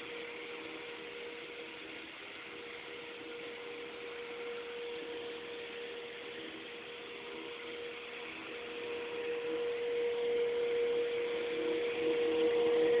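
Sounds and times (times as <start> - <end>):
cleaning machine humming and hissing: 0.0 - 13.0.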